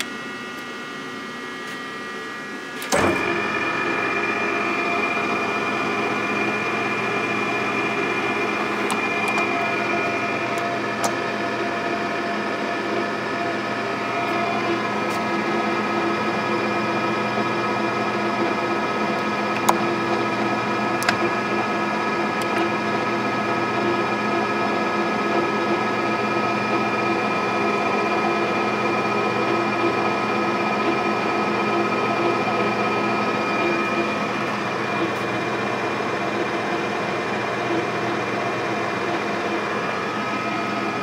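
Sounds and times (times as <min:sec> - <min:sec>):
lathe humming and whining: 0:00.0 - 0:41.0.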